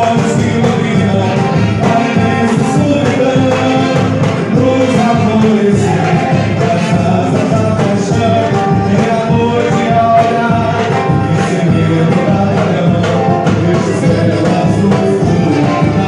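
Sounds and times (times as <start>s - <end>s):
person singing: 0.0s - 16.0s
steady percussion beat: 0.0s - 16.0s.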